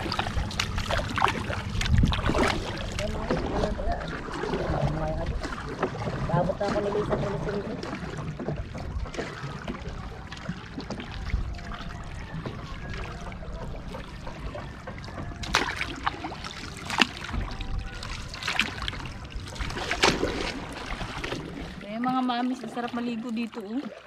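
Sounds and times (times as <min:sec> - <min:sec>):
water lapping around boat: 0:00.0 - 0:24.0.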